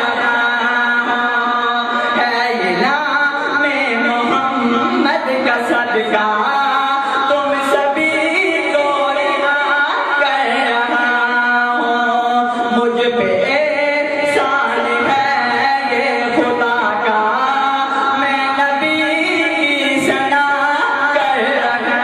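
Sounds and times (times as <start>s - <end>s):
man singing devotional chant: 0.0s - 22.0s.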